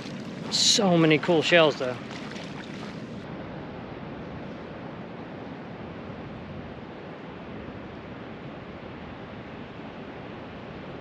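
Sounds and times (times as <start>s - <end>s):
water at shore: 0.0s - 11.0s.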